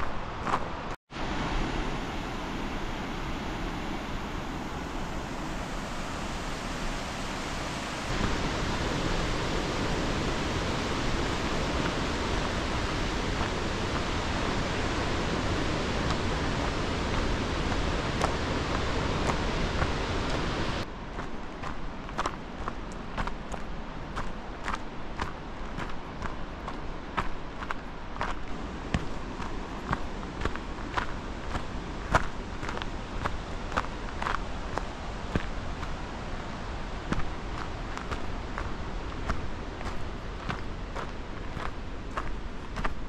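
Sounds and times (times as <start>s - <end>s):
water rushing: 0.0s - 43.0s.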